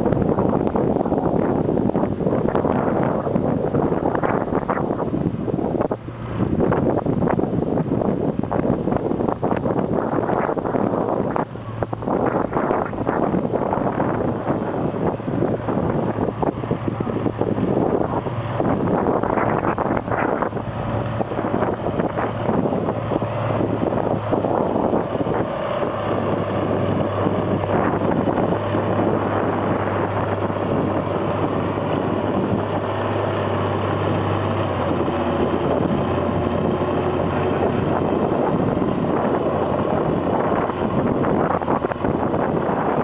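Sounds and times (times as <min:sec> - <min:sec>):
tractor engine under heavy load: 0:00.0 - 0:43.0.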